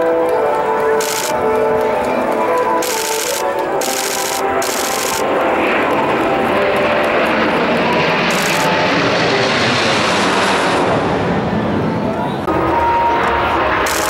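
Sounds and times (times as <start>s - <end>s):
jet aircraft roar overhead: 0.0s - 14.0s.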